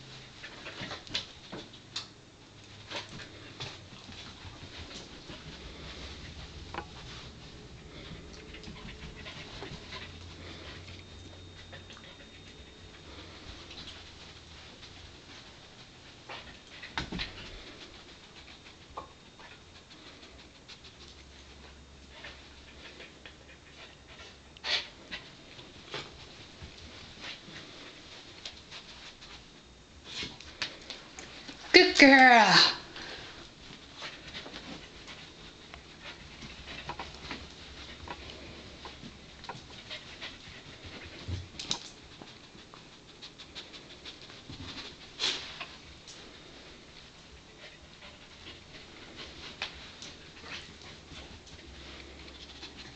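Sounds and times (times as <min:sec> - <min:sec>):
dog panting: 0:00.0 - 0:01.3, 0:02.7 - 0:28.2, 0:33.1 - 0:52.9.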